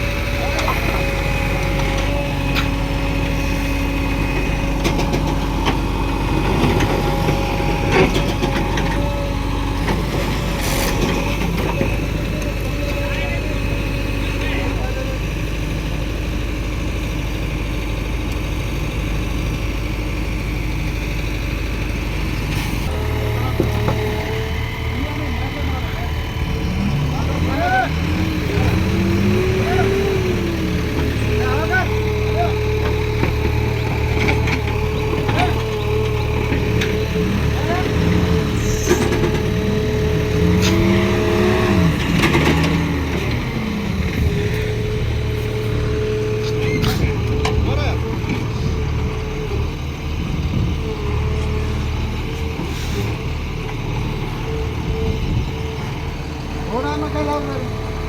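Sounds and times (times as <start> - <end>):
heavy diesel engine idling: 0.0 - 58.0.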